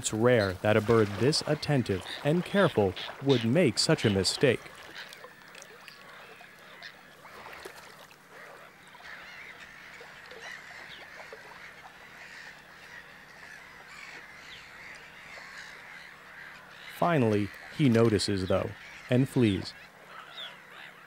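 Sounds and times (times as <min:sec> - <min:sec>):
background bird chorus: 0:00.0 - 0:21.0
short faint bird calls: 0:02.0 - 0:21.0.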